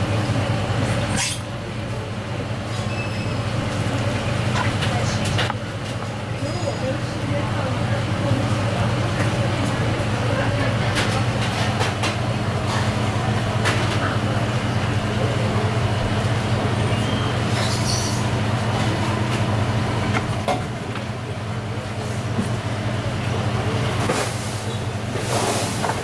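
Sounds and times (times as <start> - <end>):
kitchen equipment hum: 0.0 - 26.0.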